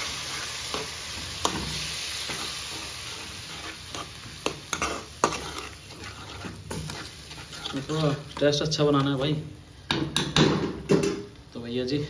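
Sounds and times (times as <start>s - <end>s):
masala sizzling in a pan: 0.0s - 10.8s.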